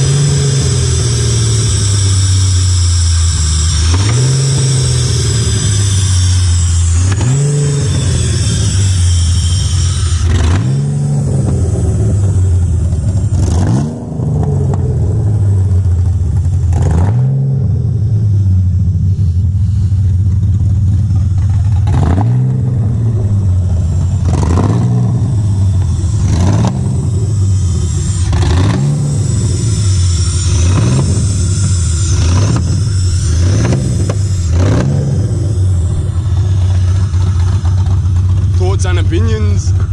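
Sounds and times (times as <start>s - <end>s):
car engine revving: 0.0s - 39.9s
supercharger whine: 0.0s - 39.9s.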